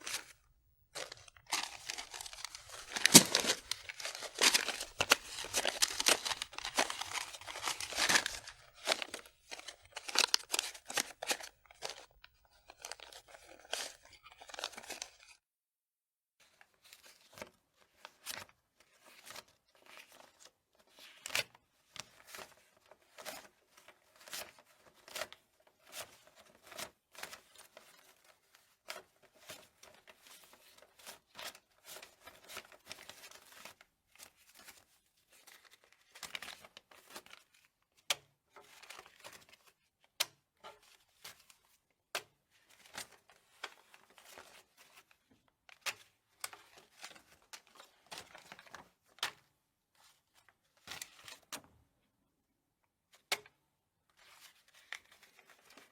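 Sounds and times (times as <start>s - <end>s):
banknotes rustling and crinkling: 0.0s - 15.4s, 16.7s - 51.7s, 54.1s - 55.9s.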